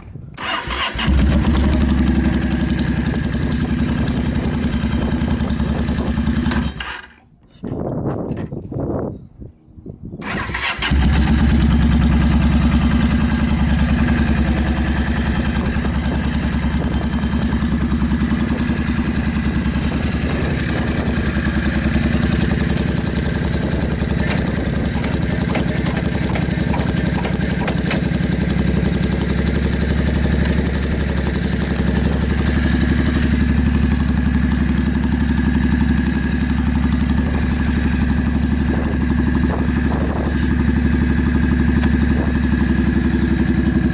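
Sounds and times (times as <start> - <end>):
motorcycle engine idling: 0.2 - 6.9, 10.2 - 43.9.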